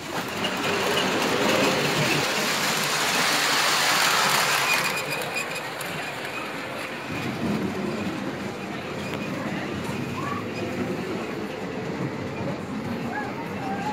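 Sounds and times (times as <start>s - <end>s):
model train rolling rumble: 0.0s - 13.9s.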